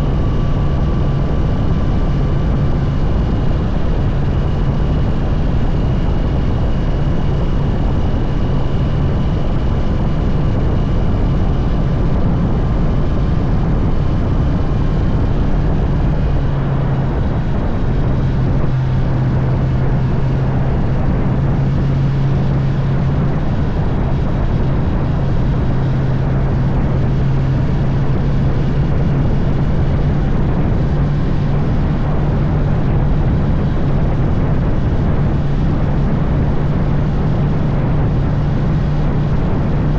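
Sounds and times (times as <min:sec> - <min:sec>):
motorcycle engine droning: 0:00.0 - 0:39.9
rushing noise: 0:00.0 - 0:39.9.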